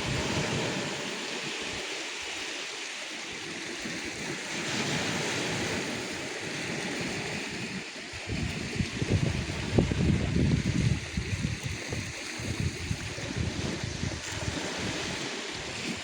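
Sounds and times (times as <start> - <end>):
wind buffeting microphone: 0.0 - 1.9, 3.8 - 16.0
calm sea waves washing in: 0.0 - 16.0.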